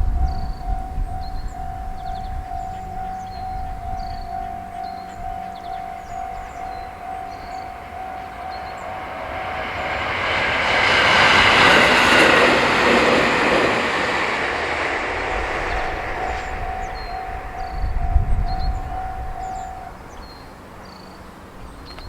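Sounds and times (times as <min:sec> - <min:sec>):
train rushing over rails: 0:00.0 - 0:21.8
crossing warning bell: 0:00.0 - 0:22.0.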